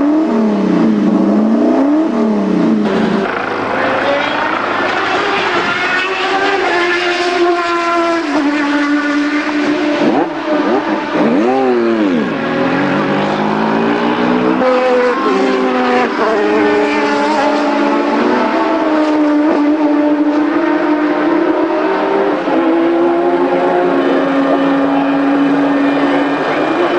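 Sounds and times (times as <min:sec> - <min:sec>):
racing car engines running: 0:00.0 - 0:26.9.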